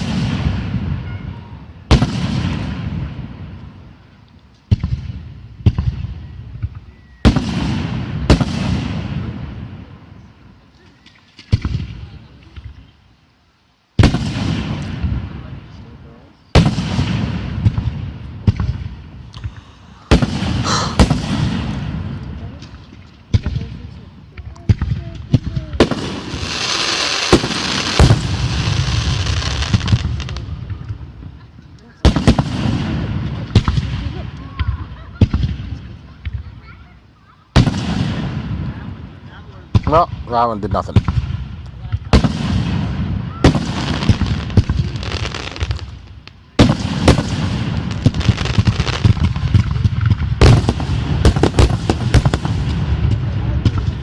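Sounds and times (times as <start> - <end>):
fireworks bangs: 0.0 - 3.9, 4.7 - 10.1, 11.4 - 12.9, 14.0 - 36.7, 37.5 - 54.0
fireworks crackling hiss: 0.0 - 54.0.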